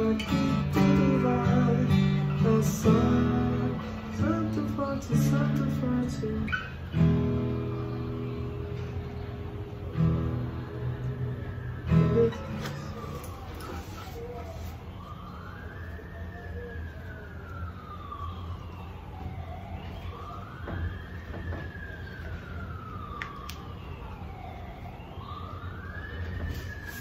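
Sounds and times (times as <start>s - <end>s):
siren wailing: 0.0s - 27.0s.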